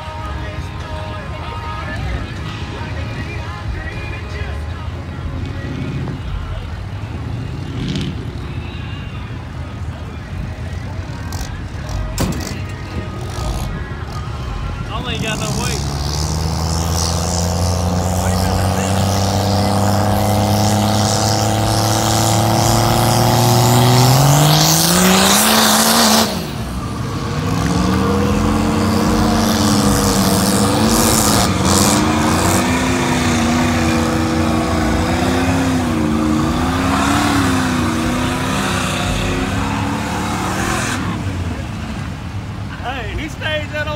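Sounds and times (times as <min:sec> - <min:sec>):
truck engine revving under load: 0:05.2 - 0:08.6, 0:10.4 - 0:43.1.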